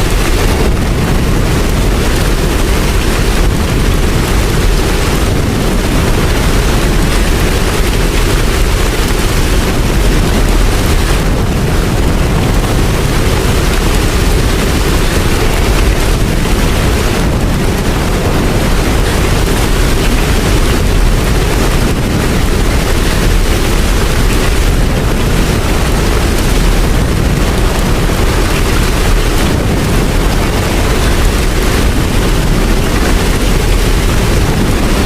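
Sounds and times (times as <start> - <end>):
deep low rumble: 0.0 - 35.0
heavy rain: 0.0 - 35.0.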